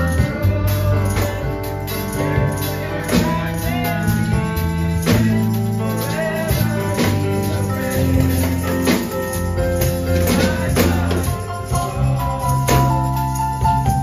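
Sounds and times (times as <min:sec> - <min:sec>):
voices singing: 0:00.0 - 0:13.9
electric bass low notes: 0:00.0 - 0:14.0
tambourine and percussion: 0:00.0 - 0:14.0.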